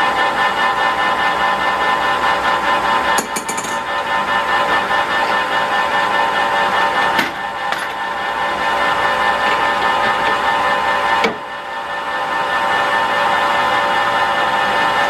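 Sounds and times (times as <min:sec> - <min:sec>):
lathe machine whine: 0:00.0 - 0:15.0.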